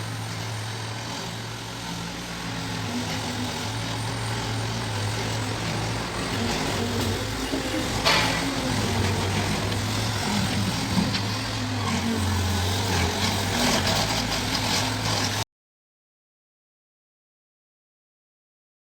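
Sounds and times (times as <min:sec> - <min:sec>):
diesel engine running: 0:00.0 - 0:15.4.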